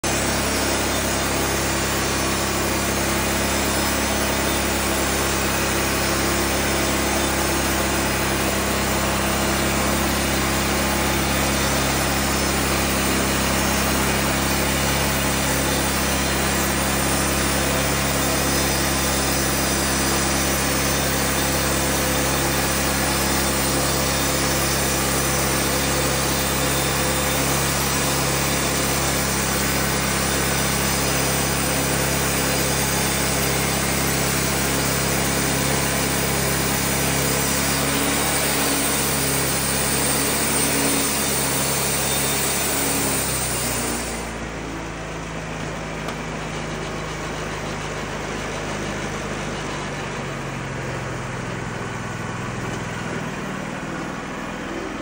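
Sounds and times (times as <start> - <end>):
band blade sawing through log: 0.0 - 44.4
bandsaw mill engine humming: 0.0 - 55.0.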